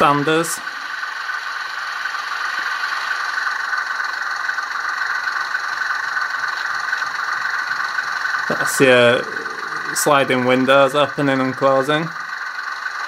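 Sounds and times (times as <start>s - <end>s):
steady hiss: 0.0s - 12.4s.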